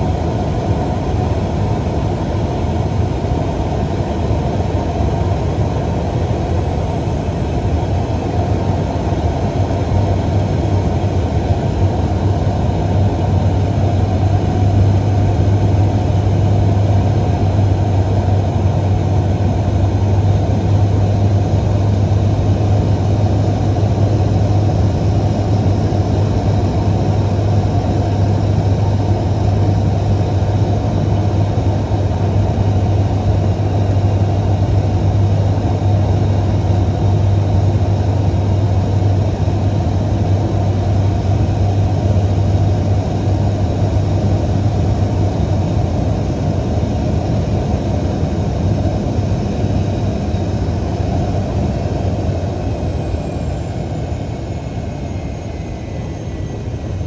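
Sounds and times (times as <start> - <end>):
plane engine and propeller: 0.0 - 57.0.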